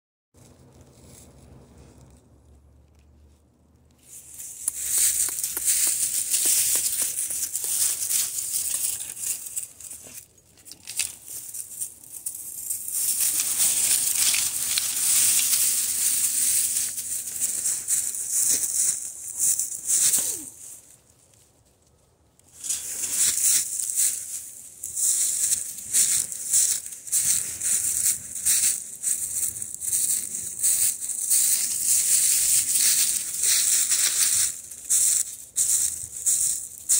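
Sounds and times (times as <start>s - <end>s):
footsteps crunching dry leaves: 4.0s - 21.0s, 22.6s - 36.9s.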